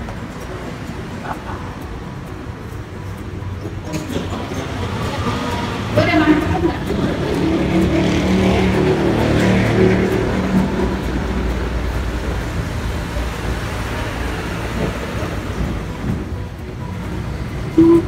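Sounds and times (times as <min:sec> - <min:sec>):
road traffic rumble and hiss: 0:00.0 - 0:18.0.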